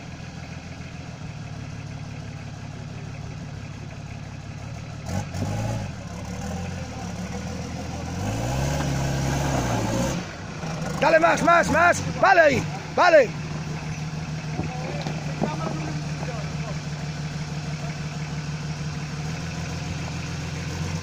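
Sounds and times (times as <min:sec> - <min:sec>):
engine idling and revving: 0:00.0 - 0:21.0.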